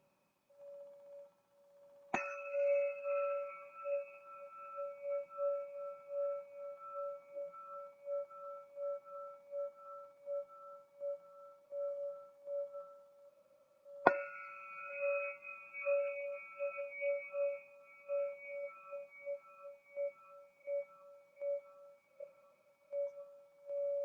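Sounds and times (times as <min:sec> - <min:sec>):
crystal singing pyramid ringing: 0:00.0 - 0:24.0.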